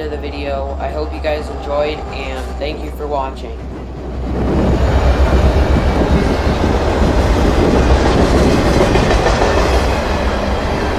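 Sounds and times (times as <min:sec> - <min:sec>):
freight train rumbling on rails: 0:00.0 - 0:10.9.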